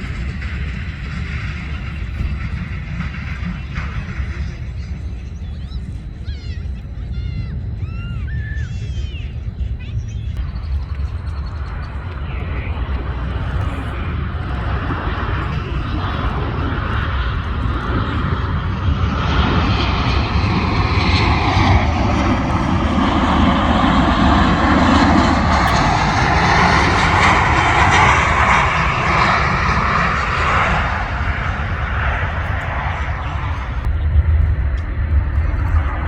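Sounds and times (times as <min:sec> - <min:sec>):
jet airliner passing: 0:00.0 - 0:36.0.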